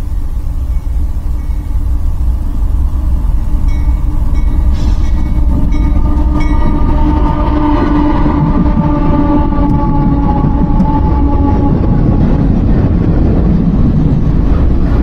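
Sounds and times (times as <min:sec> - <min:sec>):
steady chord of tones: 0:00.0 - 0:12.9
freight train rumble: 0:00.0 - 0:15.0.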